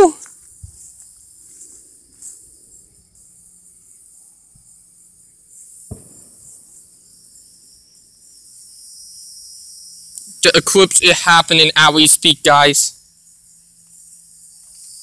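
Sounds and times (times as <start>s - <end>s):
insects singing: 0.0s - 15.0s.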